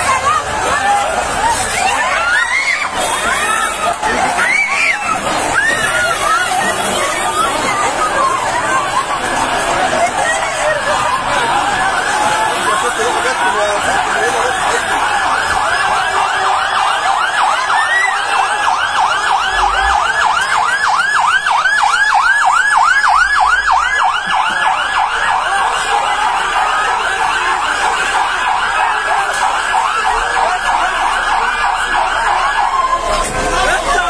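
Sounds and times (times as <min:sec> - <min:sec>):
fire engine siren yelping: 0:00.0 - 0:34.0.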